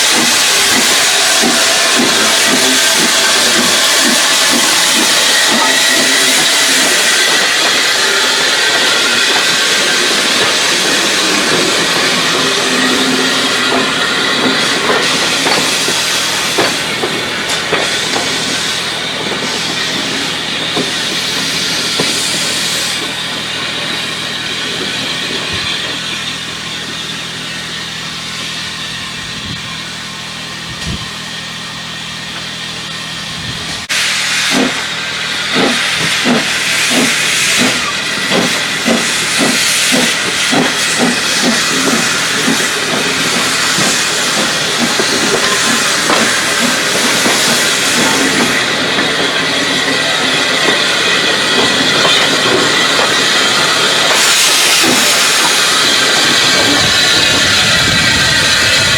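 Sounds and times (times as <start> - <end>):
steam hissing: 0.0 - 58.9
steam train chugging: 0.0 - 58.9.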